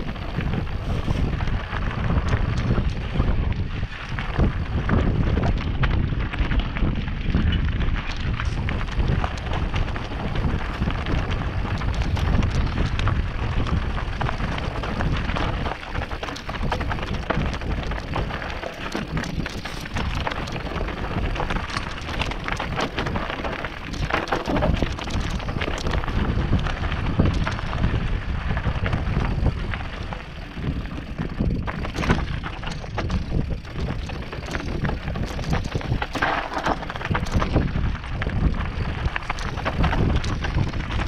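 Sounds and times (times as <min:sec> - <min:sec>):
bike tyres clattering over stones: 0:00.0 - 0:41.0
wind rumble on microphone: 0:00.0 - 0:41.0.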